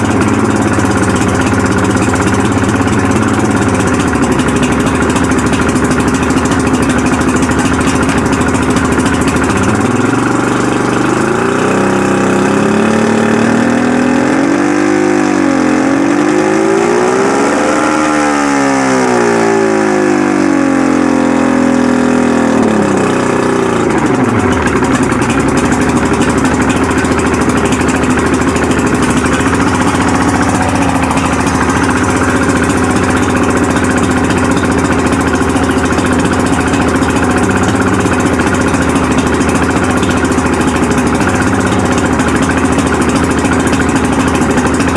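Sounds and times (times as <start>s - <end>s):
outboard motors idling and revving: 0.0s - 44.9s.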